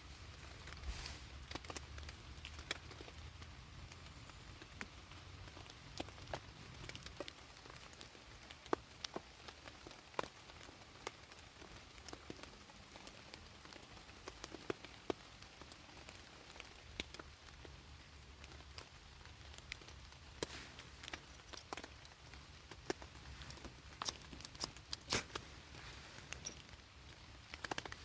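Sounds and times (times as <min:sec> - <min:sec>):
faint hiss of rain: 0:00.0 - 0:28.0
raindrops dripping: 0:00.0 - 0:28.0.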